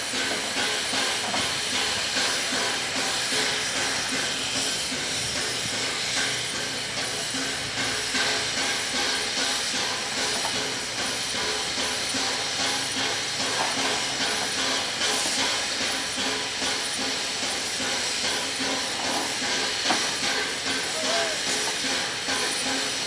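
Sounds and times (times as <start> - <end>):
steam locomotive hissing steam: 0.0 - 23.0.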